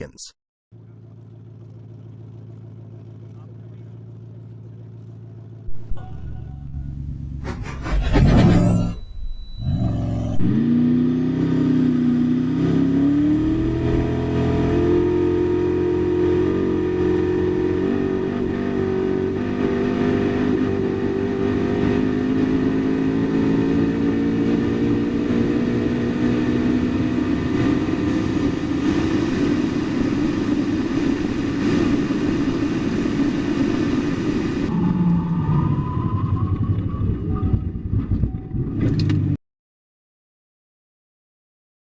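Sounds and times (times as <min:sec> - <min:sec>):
car engine accelerating: 0:00.8 - 0:39.4.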